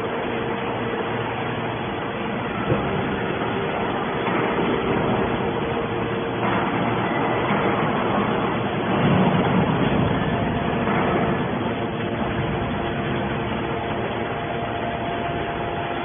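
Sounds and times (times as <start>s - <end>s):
hydraulic baler running: 0.0s - 16.0s.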